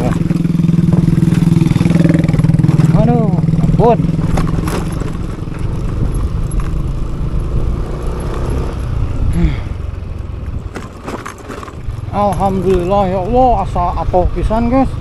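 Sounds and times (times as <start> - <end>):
knocks and rattles: 0.0 - 8.9, 10.4 - 13.6
motorcycle engine running: 0.0 - 15.0.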